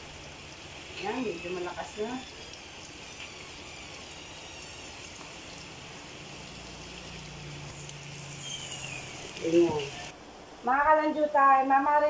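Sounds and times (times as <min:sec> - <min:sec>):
vegetables sizzling in hot oil: 0:00.0 - 0:10.2.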